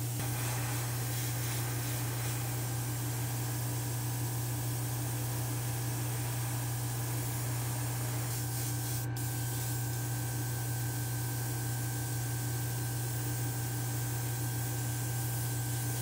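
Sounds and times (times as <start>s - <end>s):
airbrush hissing: 0.0s - 16.0s
low mechanical hum: 0.0s - 16.0s.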